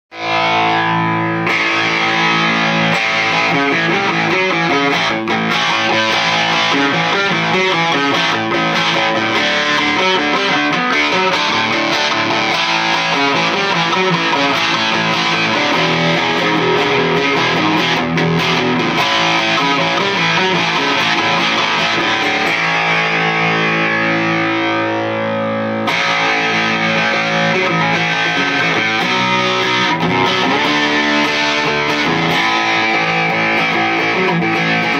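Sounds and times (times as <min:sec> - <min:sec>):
electric guitar riffs: 0:00.1 - 0:34.9.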